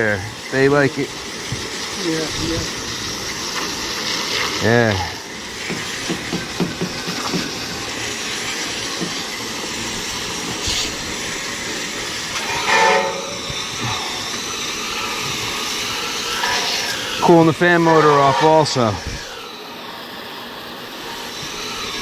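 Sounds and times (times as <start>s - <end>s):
water spraying from a hose: 0.0s - 22.0s.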